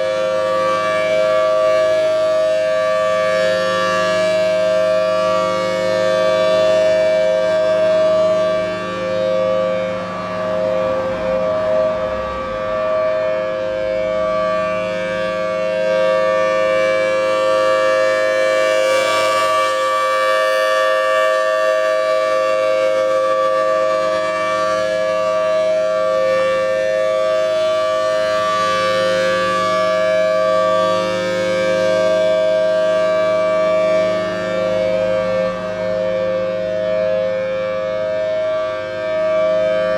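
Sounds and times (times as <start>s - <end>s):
warning siren two-tone chord: 0.0s - 39.9s.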